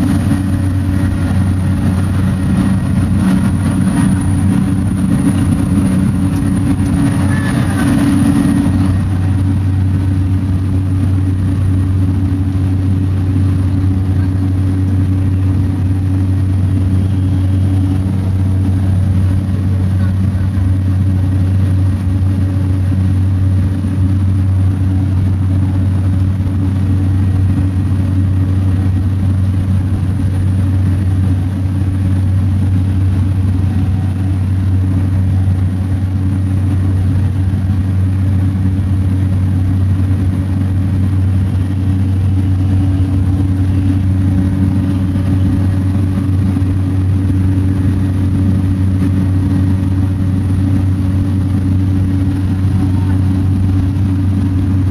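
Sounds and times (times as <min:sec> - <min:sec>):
propeller plane engine droning: 0:00.0 - 0:54.9.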